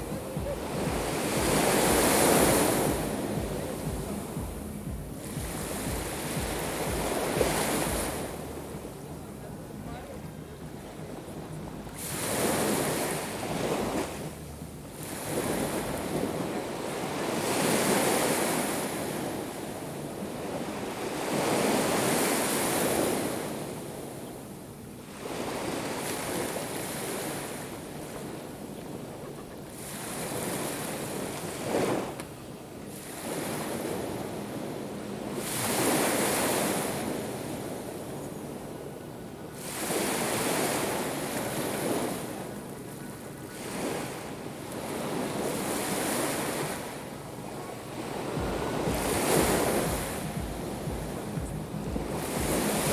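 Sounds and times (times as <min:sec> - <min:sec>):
waves breaking on shore: 0:00.0 - 0:52.9.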